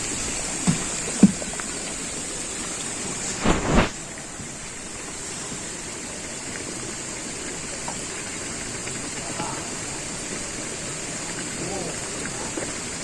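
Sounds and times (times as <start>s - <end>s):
constant high hiss: 0.0s - 13.0s
water hissing: 0.0s - 13.0s.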